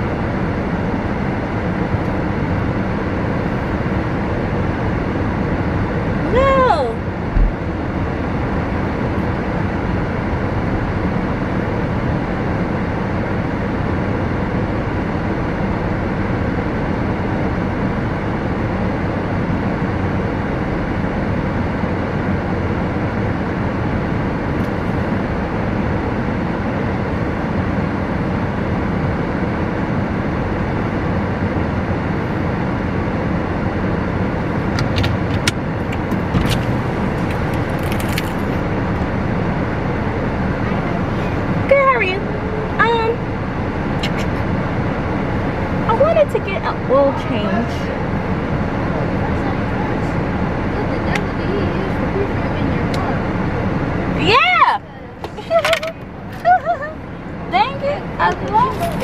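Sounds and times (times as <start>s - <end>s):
car engine rumble: 0.0s - 59.0s.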